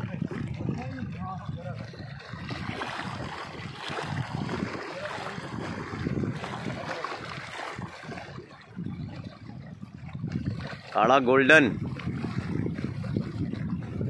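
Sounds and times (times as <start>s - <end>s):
small waves lapping on stones: 0.0s - 13.7s
wind buffeting microphone: 0.0s - 14.0s.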